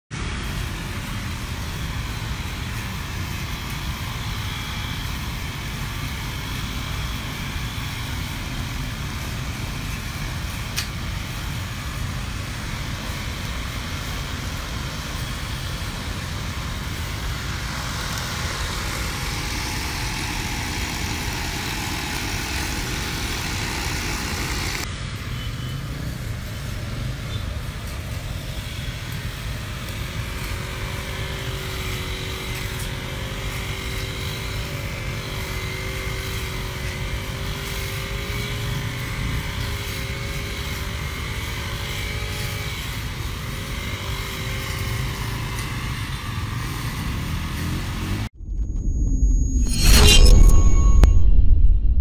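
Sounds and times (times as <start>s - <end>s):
street traffic rumble: 0.1s - 48.4s
brush cutter running: 0.2s - 24.9s, 26.5s - 48.3s.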